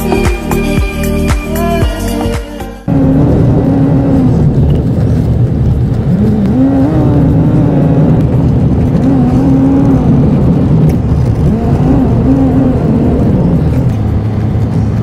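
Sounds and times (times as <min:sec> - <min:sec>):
vehicle engine: 0:00.0 - 0:15.0
road noise on gravel: 0:02.9 - 0:15.0.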